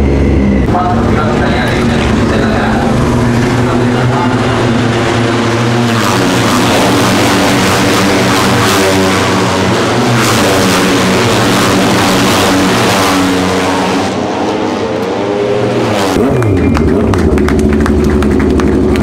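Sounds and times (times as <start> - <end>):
lower steady engine note: 0.0 - 19.0
race motorcycle engines revving: 0.0 - 19.0.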